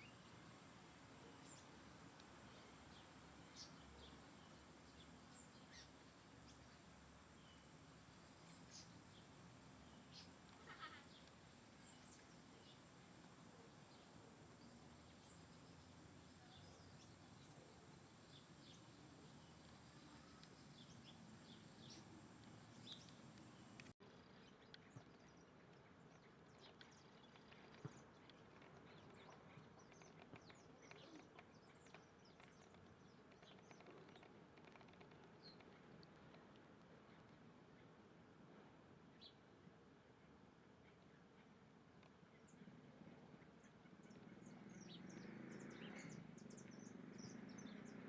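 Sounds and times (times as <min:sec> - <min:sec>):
small birds chirping: 0:00.0 - 0:36.5, 0:43.4 - 0:48.0
low background noise: 0:00.0 - 0:48.0.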